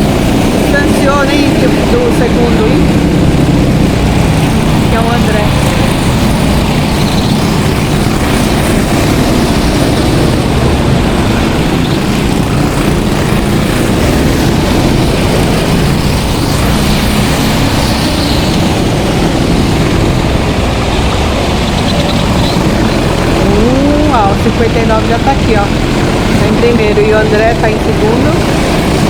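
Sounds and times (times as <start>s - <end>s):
go-kart engines racing: 0.0s - 29.0s.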